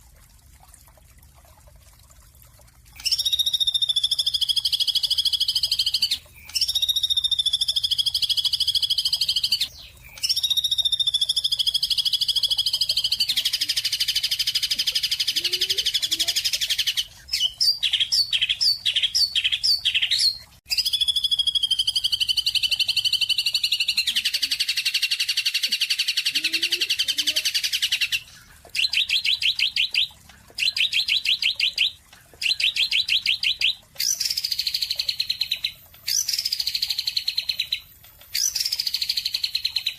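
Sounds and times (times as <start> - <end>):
songbird chirping and trilling: 3.0 - 39.9.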